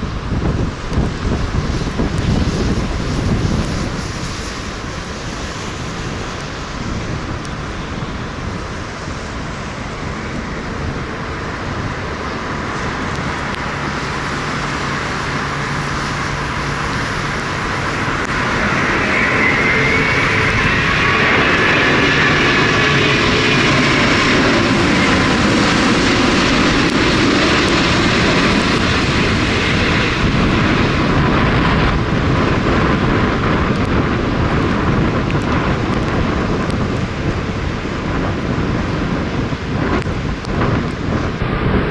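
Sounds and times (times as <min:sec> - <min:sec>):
jet engine whine: 0:00.0 - 0:41.9
wind on microphone: 0:00.0 - 0:41.9.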